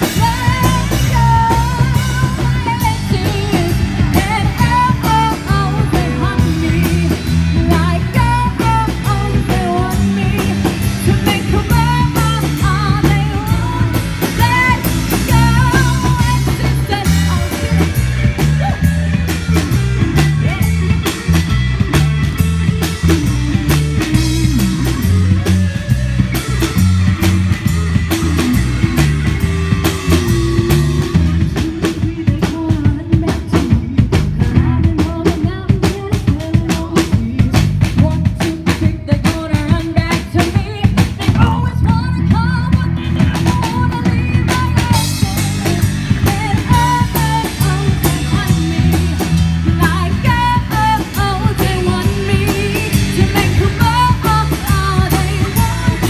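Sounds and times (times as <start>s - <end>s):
woman singing: 0.0s - 19.1s, 30.1s - 56.0s
rock band playing: 0.0s - 56.0s.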